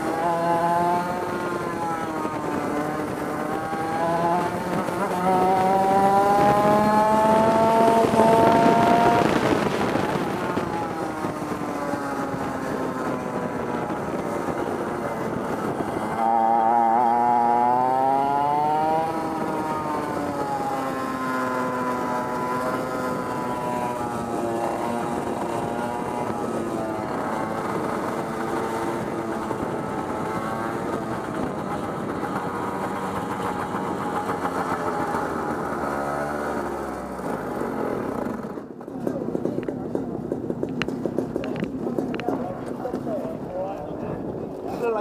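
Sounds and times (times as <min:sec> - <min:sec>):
kart engine buzzing: 0:00.0 - 0:45.0.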